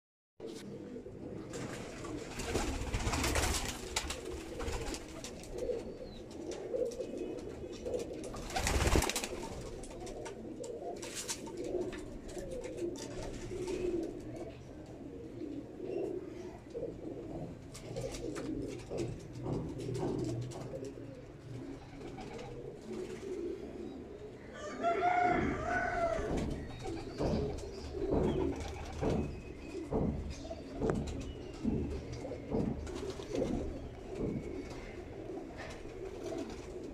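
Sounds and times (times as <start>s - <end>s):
pigeons cooing: 0.4s - 36.9s.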